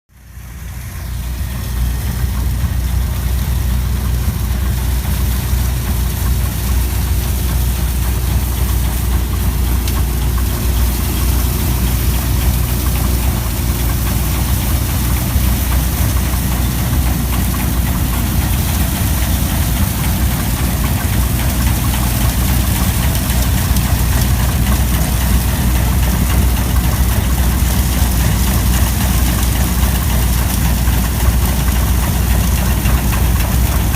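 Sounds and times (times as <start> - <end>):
old engine idling: 0.1 - 33.9.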